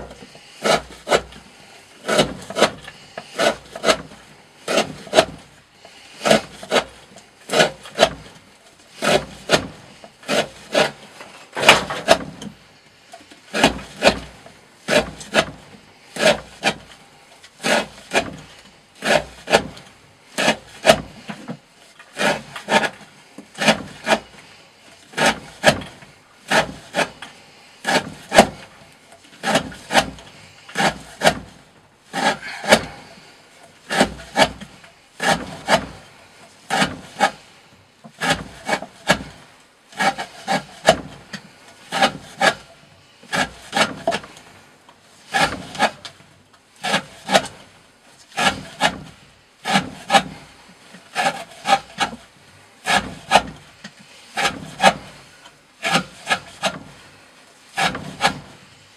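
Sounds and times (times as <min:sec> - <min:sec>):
knife cutting rope: 0:00.0 - 0:12.6, 0:13.2 - 0:37.5, 0:38.2 - 0:44.4, 0:45.2 - 0:46.2, 0:46.8 - 0:57.0, 0:57.7 - 0:58.7.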